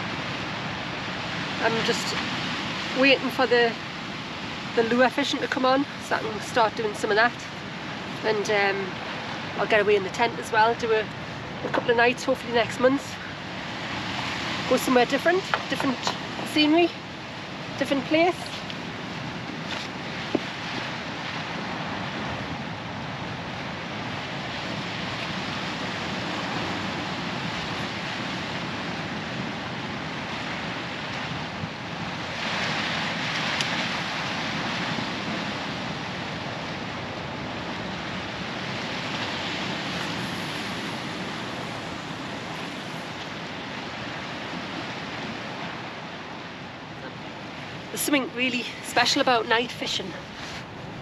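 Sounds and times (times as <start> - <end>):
waves breaking against rocks: 0.0 - 51.0.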